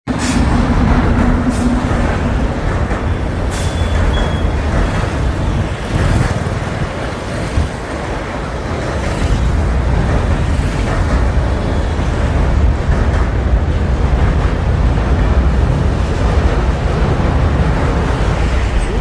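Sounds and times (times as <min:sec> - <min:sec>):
train rumbling across bridge: 0:00.1 - 0:19.0.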